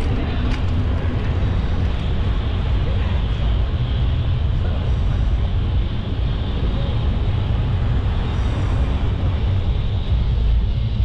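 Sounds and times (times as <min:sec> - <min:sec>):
street traffic: 0:00.0 - 0:11.0
wind on microphone: 0:00.0 - 0:11.0.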